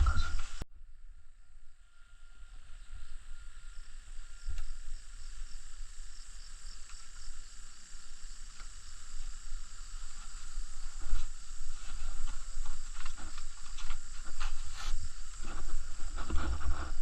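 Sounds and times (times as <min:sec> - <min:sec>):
high-pitched insect drone: 0:00.0 - 0:17.0
low wind rumble: 0:00.0 - 0:17.0.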